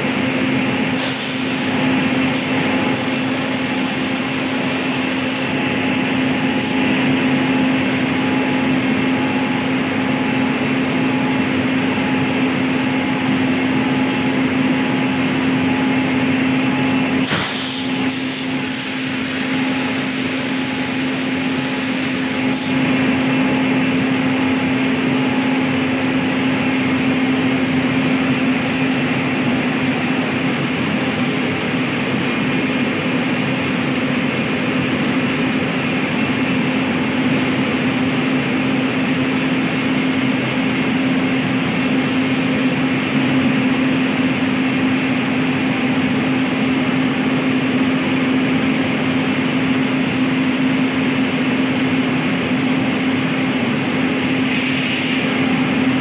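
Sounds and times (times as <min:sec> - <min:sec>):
locomotive machinery drone: 0:00.0 - 0:56.0.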